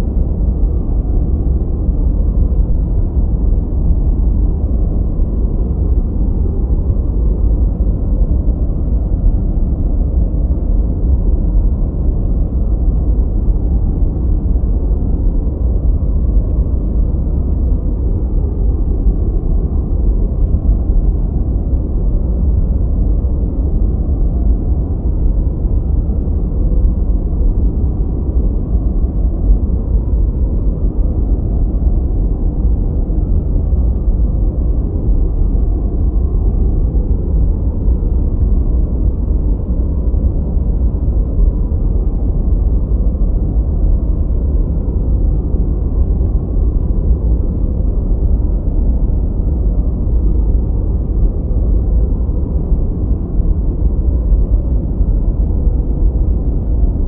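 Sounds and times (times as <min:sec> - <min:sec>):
deep rushing noise: 0:00.0 - 0:57.0.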